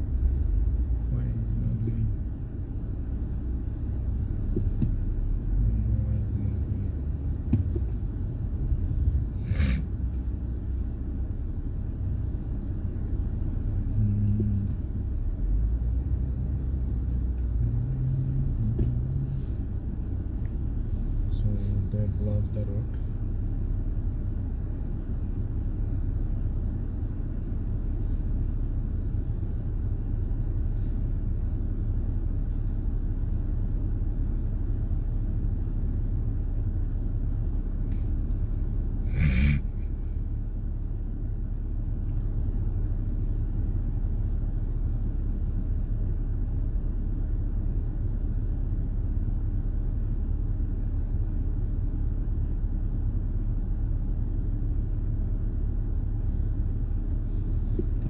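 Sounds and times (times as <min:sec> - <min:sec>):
car cabin rumble: 0:00.0 - 0:58.0.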